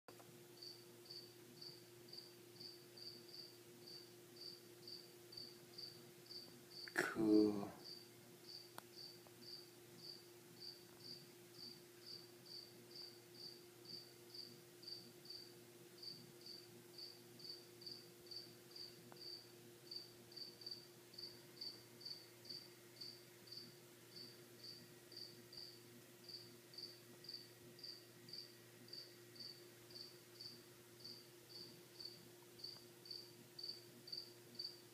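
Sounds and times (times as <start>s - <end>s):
cricket chirping: 0.6s - 34.9s.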